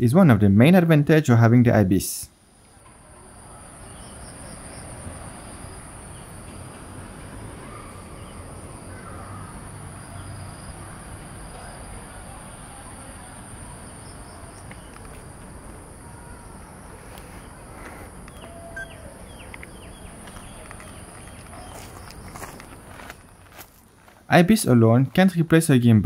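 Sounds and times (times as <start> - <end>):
high-pitched insect chorus trilling: 2.5 - 23.6.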